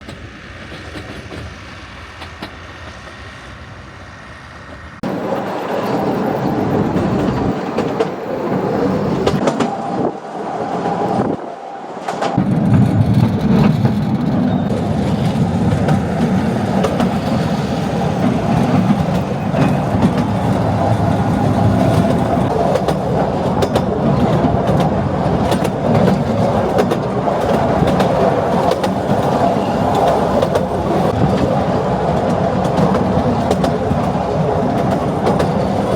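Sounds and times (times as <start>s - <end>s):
clicks of train on track: 0.0s - 35.9s
train wheels rumbling on rails: 0.0s - 35.9s.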